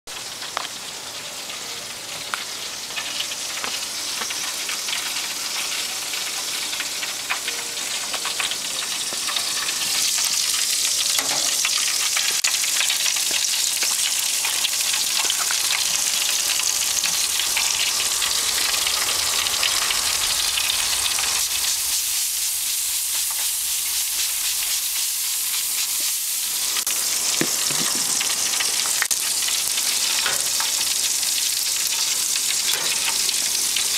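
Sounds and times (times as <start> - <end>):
ribs sizzling on a grill: 0.1 - 33.9.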